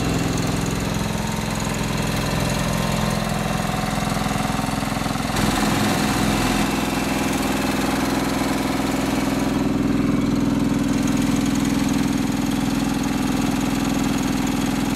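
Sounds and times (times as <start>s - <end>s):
riding mower engine running: 0.0s - 14.9s.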